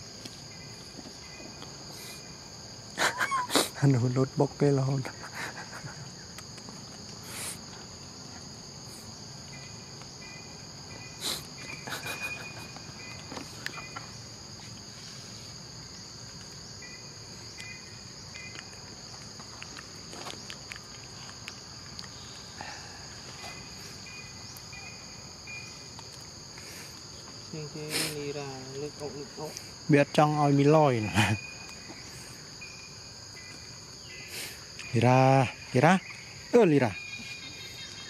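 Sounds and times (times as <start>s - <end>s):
high-pitched insect drone: 0.0s - 19.2s, 22.1s - 38.0s.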